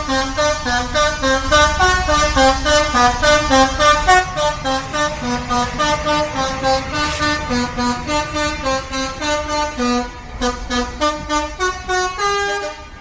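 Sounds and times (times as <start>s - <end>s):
low engine rumble: 0.0s - 12.0s
truck musical horn melody: 0.0s - 13.0s.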